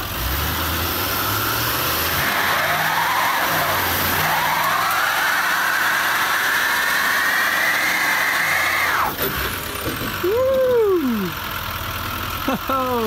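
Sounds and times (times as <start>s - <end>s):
tires screeching on pavement: 0.0s - 10.5s
diesel truck engine revving: 0.0s - 13.0s.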